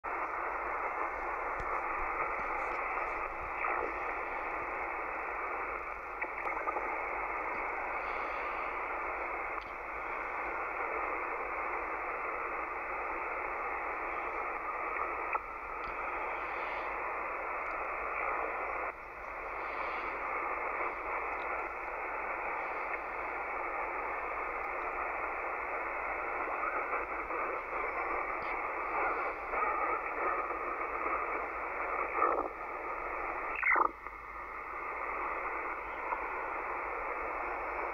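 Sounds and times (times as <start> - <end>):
radio band noise hiss: 0.0 - 37.9.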